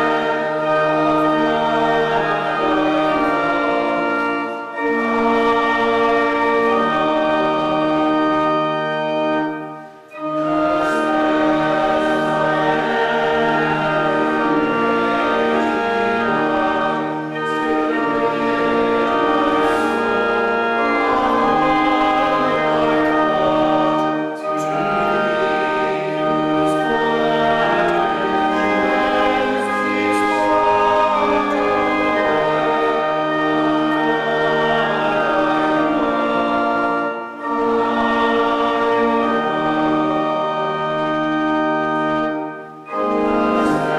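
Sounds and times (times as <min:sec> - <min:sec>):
choir singing: 0:00.0 - 0:43.9
church organ playing a hymn: 0:00.0 - 0:43.9.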